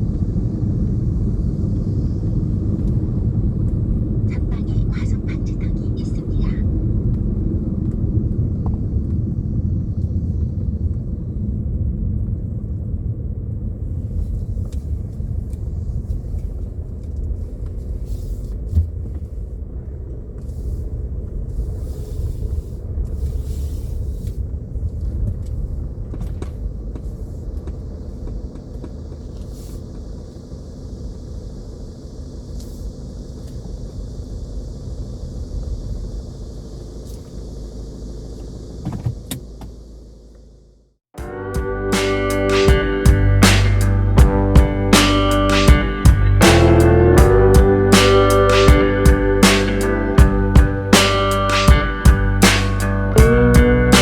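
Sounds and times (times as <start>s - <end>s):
car engine and tyres rumbling: 0.0s - 42.0s, 42.7s - 54.0s.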